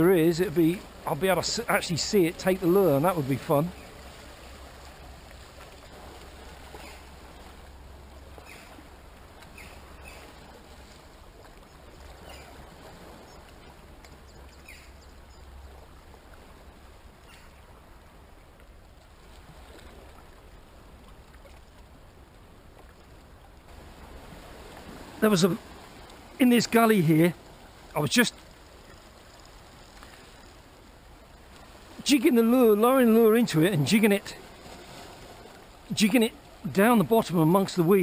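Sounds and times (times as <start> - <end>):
water lapping over rocks: 0.0 - 14.7, 15.4 - 38.0.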